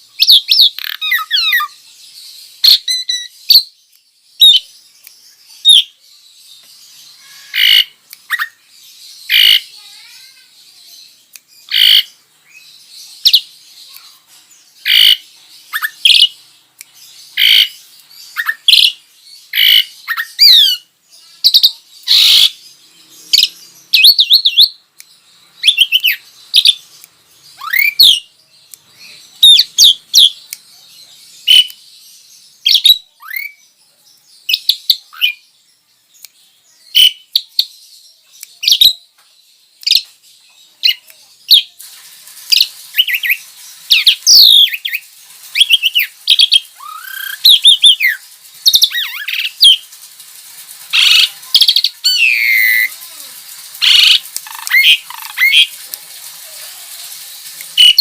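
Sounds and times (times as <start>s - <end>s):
birds whistling and squawking: 0.0s - 3.8s, 4.4s - 24.8s, 25.4s - 33.7s, 39.8s - 41.8s, 42.5s - 58.0s.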